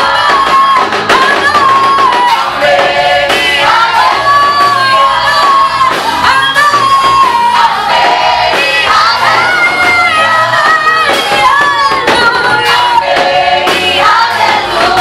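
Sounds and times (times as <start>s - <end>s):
choir singing gospel: 0.0s - 15.0s
instrumental accompaniment: 0.0s - 15.0s.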